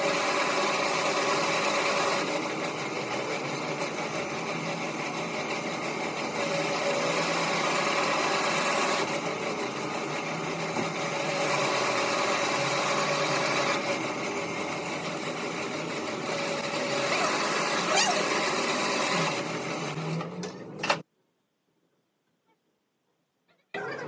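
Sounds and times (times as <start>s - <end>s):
machine whirring: 0.0s - 21.0s.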